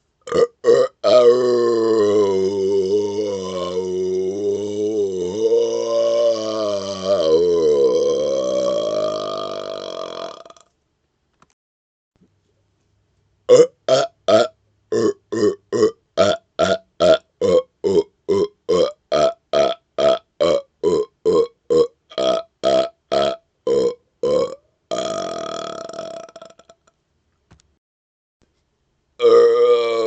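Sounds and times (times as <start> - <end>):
man belching: 0.3 - 10.7, 13.5 - 26.9, 29.2 - 30.0.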